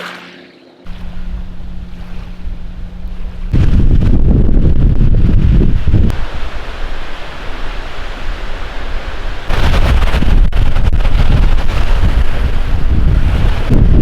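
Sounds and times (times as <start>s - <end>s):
strong wind buffeting microphone: 0.9s - 14.0s.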